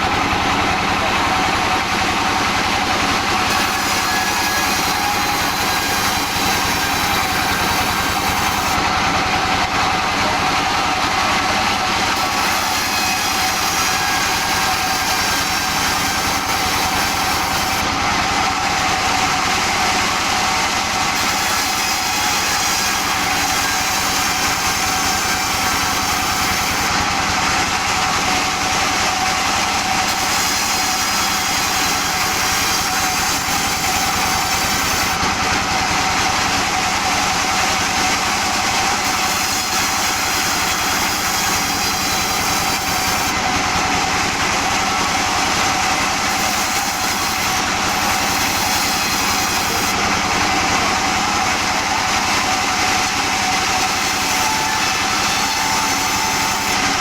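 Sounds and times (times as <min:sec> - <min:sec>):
sawmill saw sawing logs: 0:00.0 - 0:57.0.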